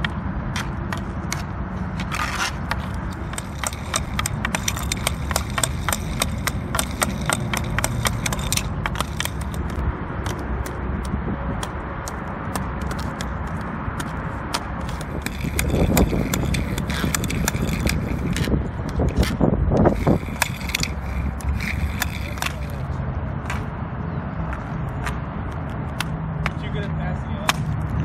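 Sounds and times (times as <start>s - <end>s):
puck scraping on pavement: 0.0s - 28.0s
hockey stick clacking puck: 0.6s - 23.7s, 26.0s - 26.8s, 27.4s - 27.8s.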